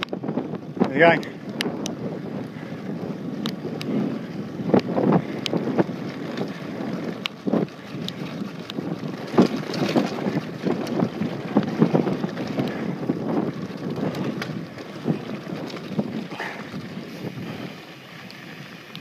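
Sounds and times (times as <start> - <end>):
bike rattling over stones: 0.0 - 19.0
wind rushing on microphone: 0.0 - 19.0
tyres on dirt: 0.1 - 19.0.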